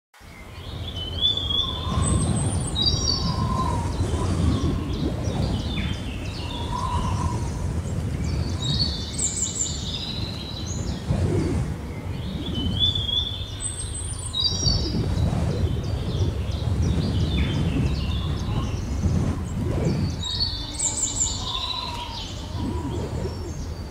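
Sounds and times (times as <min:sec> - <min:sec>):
birds chirping: 0:00.2 - 0:23.9.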